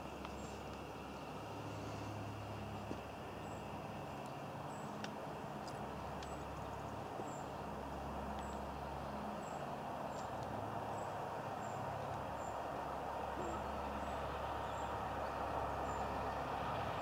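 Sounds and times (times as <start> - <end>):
distant vehicles rumbling: 0.0 - 17.0.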